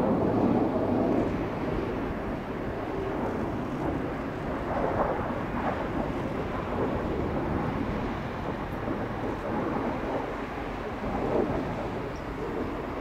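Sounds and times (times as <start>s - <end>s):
distant jet engine roar: 0.0s - 13.0s.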